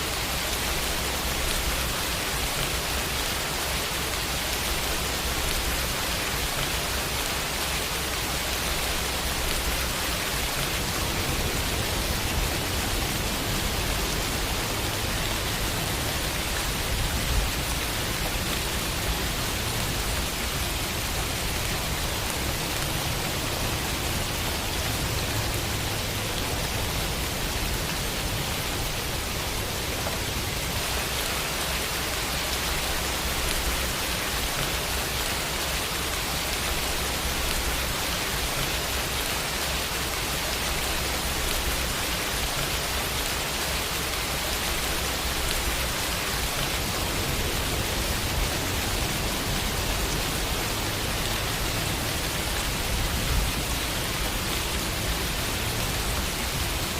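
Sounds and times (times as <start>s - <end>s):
rain falling on a window: 0.0s - 56.9s.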